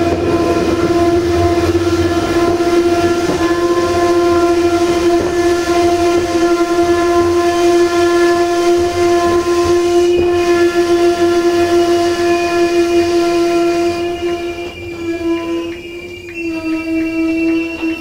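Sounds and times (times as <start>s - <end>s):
higher brake squeal: 0.0s - 18.0s
rumble of running train: 0.0s - 18.0s
train brakes squealing: 0.0s - 18.0s.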